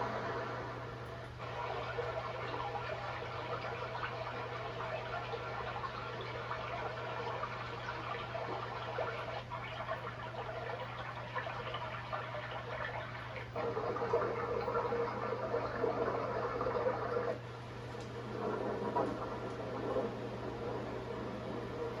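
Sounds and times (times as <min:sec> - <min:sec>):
steady low hum: 0:00.0 - 0:22.0
white noise machine water sound: 0:00.0 - 0:22.0.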